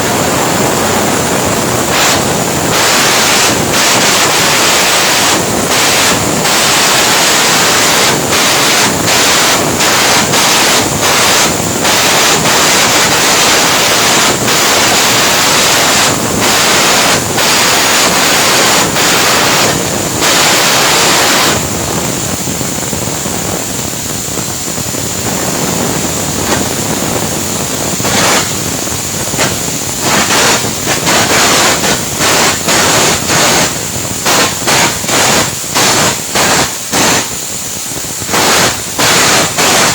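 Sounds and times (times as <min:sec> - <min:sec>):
welding arc crackling and hissing: 0:00.0 - 0:39.9.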